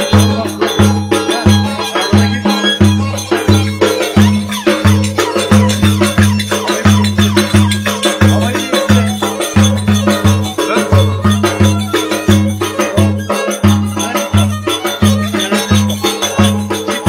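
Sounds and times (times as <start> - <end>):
jingling percussion: 0.0 - 17.0.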